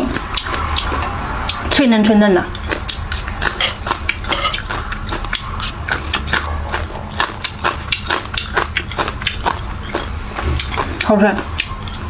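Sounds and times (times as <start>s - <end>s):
chewing crisp vegetable: 0.0s - 12.0s.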